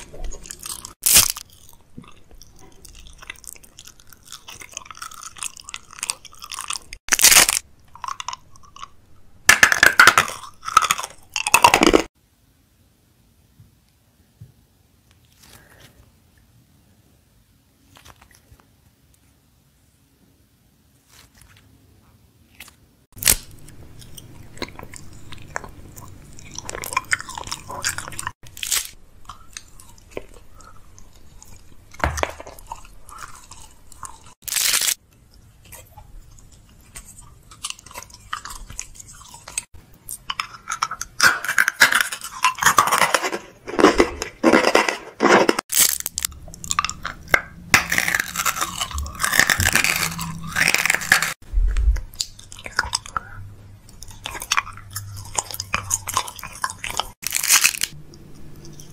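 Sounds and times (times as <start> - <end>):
candy crunching when chewed: 0.0 - 12.1, 22.6 - 58.9.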